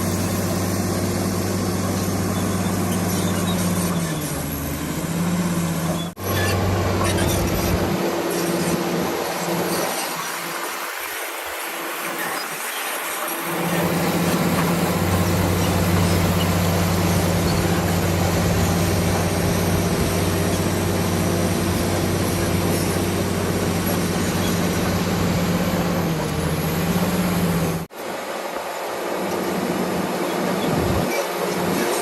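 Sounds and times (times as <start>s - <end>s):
bulldozer diesel engine: 0.0s - 32.0s.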